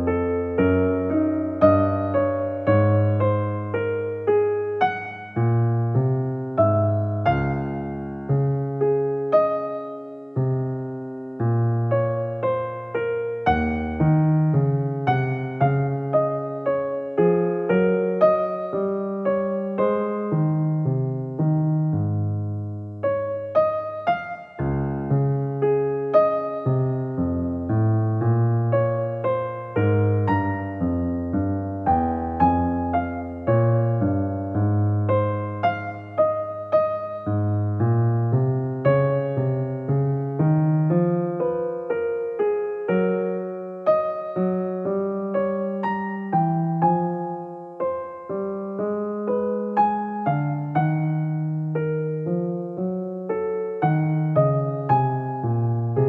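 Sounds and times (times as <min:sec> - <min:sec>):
calm piano music: 0:00.0 - 0:56.0.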